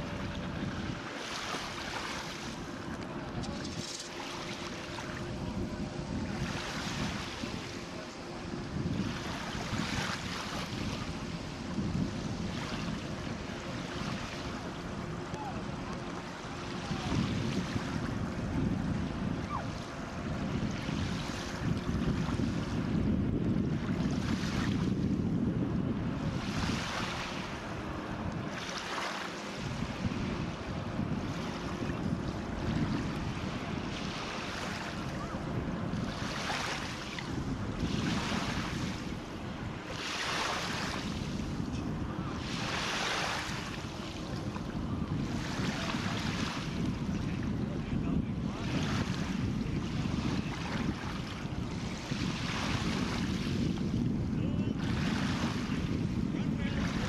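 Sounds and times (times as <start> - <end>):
water rushing past boat: 0.0 - 57.0
wind buffeting microphone: 0.0 - 57.0.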